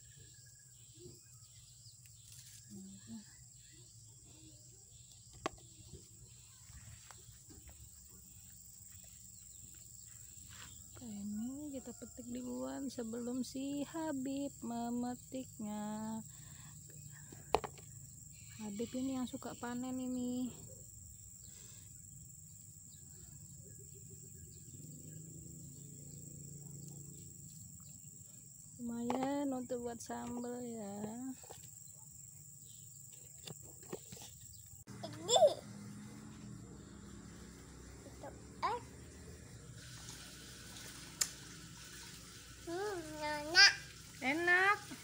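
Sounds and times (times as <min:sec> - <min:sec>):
high-pitched insect trill: 0:00.0 - 0:33.6, 0:34.2 - 0:45.0.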